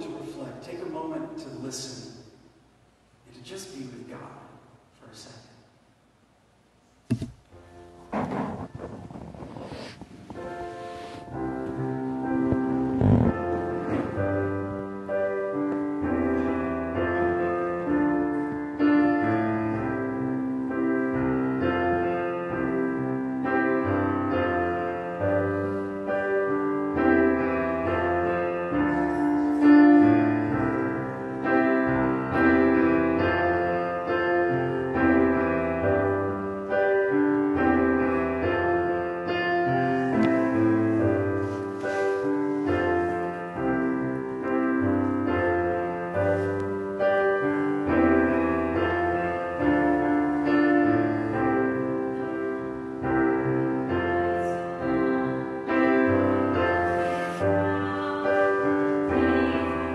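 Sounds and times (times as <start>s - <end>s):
piano music: 0.0s - 2.3s, 7.1s - 59.9s.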